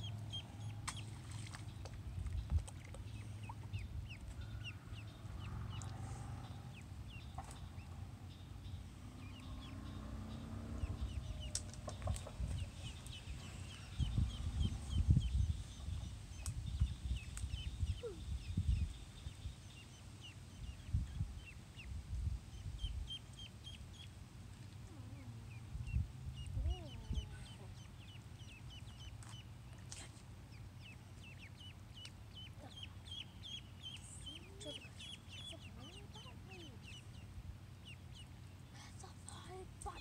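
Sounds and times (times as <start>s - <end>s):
ducklings peeping: 0.0s - 24.2s, 24.9s - 40.0s.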